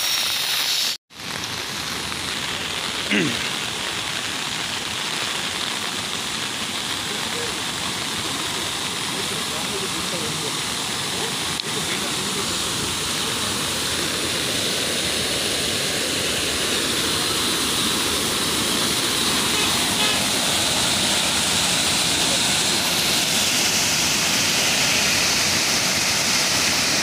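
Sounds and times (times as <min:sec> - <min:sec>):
waterfall over rocks: 0:00.0 - 0:27.0.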